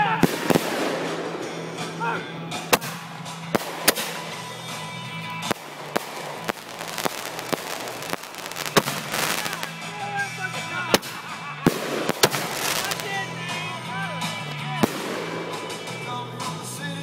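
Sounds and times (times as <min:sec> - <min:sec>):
fireworks bangs: 0:00.0 - 0:16.8
fireworks crackling: 0:00.0 - 0:17.0.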